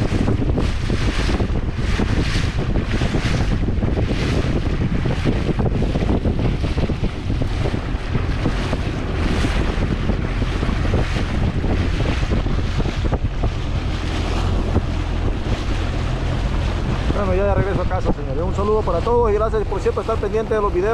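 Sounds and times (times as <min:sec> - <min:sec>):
water lapping around boat: 0:00.0 - 0:20.9
wind buffeting microphone: 0:00.0 - 0:20.9.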